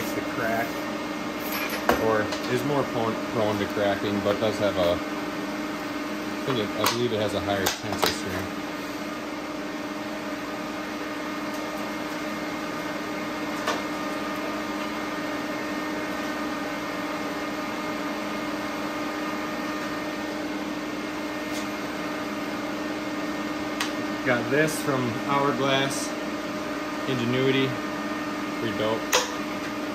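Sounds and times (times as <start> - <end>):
machinery hum and fan whir: 0.0 - 29.9.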